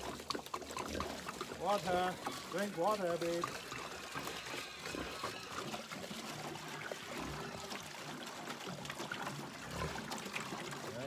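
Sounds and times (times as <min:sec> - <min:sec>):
water pouring into a pan: 0:00.0 - 0:11.0.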